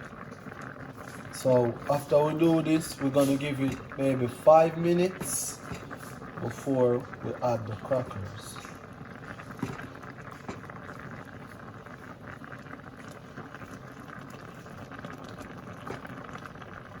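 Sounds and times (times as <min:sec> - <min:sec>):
liquid boiling and bubbling in a pot: 0:00.0 - 0:17.0.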